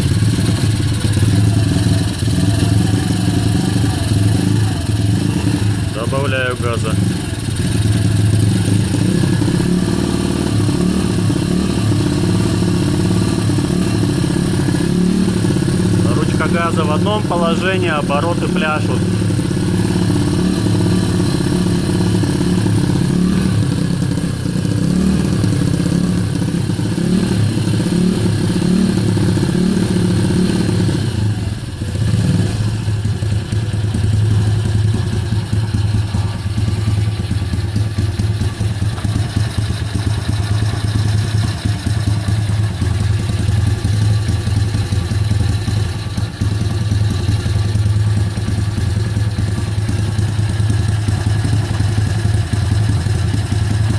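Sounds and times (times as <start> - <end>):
motorbike engine revving unevenly: 0.0 - 53.9.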